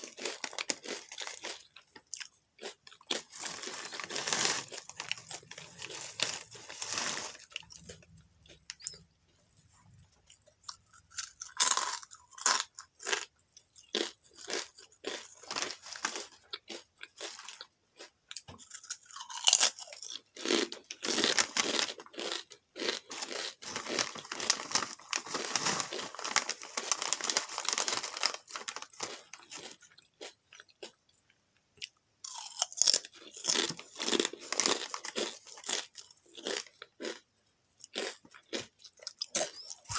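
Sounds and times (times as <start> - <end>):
person chewing crunchy chips: 0.0 - 39.9.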